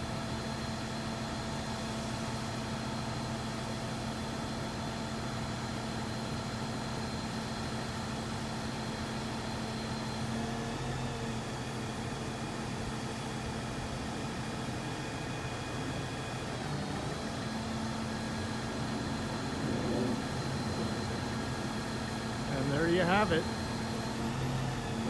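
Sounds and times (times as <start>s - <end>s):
crane diesel engine droning: 0.0s - 25.0s.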